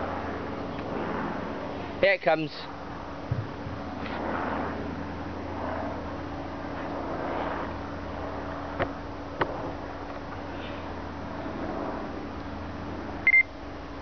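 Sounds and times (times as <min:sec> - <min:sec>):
distant diesel locomotive drone: 0:00.0 - 0:14.0.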